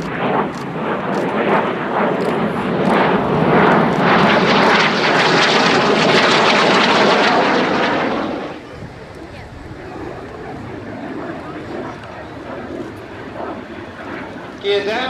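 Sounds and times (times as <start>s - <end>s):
jet low pass roar: 0.0s - 15.0s.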